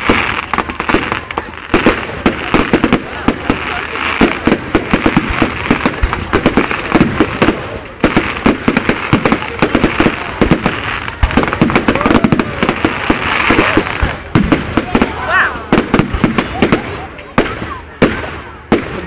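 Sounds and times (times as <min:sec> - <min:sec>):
fireworks bangs: 0:00.0 - 0:19.0
fireworks hiss: 0:00.0 - 0:19.0.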